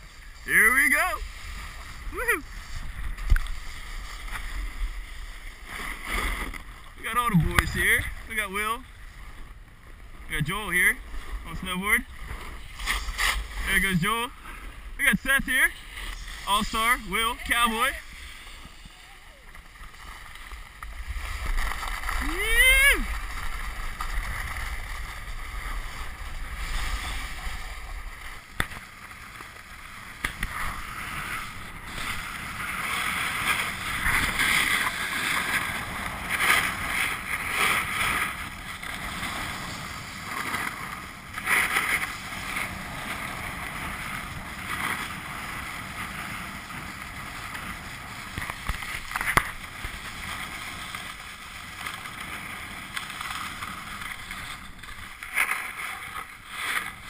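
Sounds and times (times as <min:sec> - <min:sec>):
snowboard scraping on snow: 0:00.0 - 0:57.0.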